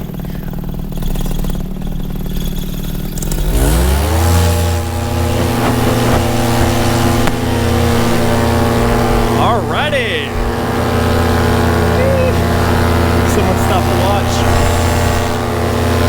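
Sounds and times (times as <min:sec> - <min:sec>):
paramotor engine and propeller: 0:00.0 - 0:16.0.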